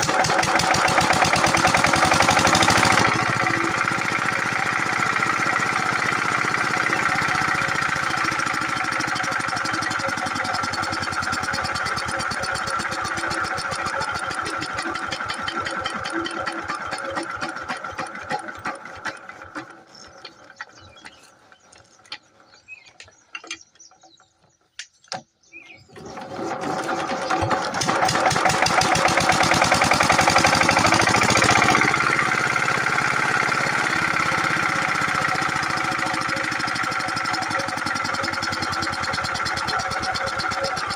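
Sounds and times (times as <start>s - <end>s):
diesel pump engine chugging: 0.0s - 23.6s, 25.9s - 40.9s.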